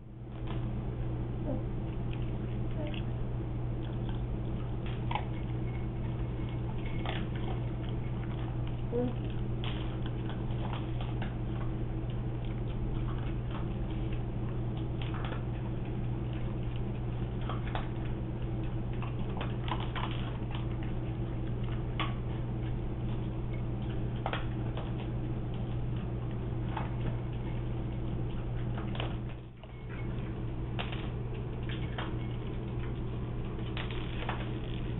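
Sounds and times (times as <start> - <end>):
steady low hum: 0.0 - 34.9
dog crunching food: 0.1 - 34.9.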